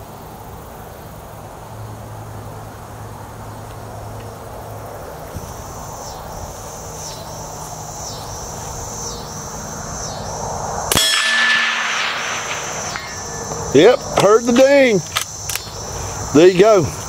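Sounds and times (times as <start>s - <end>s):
insects calling in pulses: 0.0s - 17.0s.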